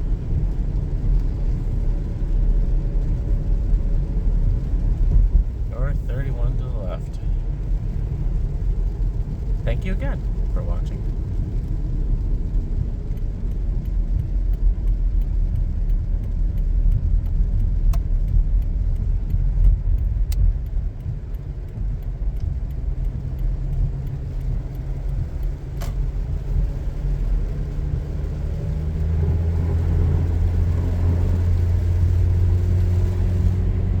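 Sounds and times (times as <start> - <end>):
faint regular ticking: 0.0 - 33.9
road and engine rumble: 0.0 - 34.0.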